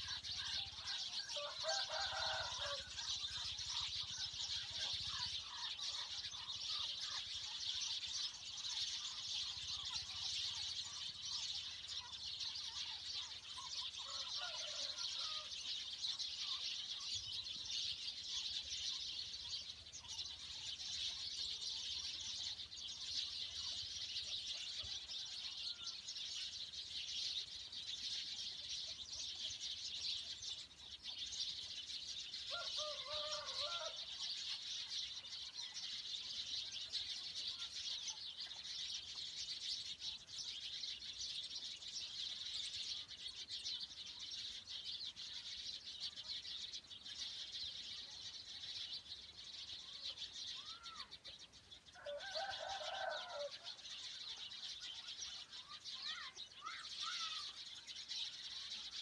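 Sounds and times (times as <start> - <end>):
chorus of small birds chirping: 0.0 - 59.0.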